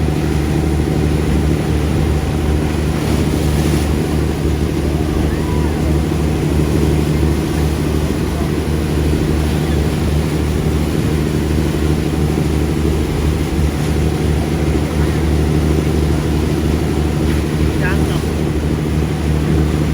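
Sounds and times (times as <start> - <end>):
boat engine running: 0.0 - 19.9.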